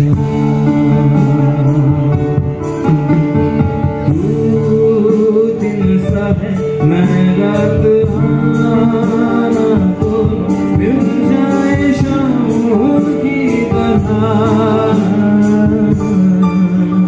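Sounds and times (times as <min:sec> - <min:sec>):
guitar: 0:00.0 - 0:17.0
keyboard: 0:00.0 - 0:17.0
man singing: 0:00.0 - 0:17.0.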